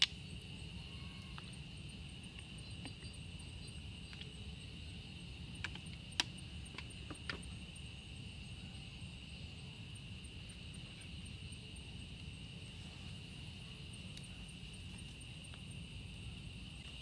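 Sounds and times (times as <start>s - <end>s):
night insects droning: 0.0s - 17.0s
low background rumble: 0.1s - 17.0s.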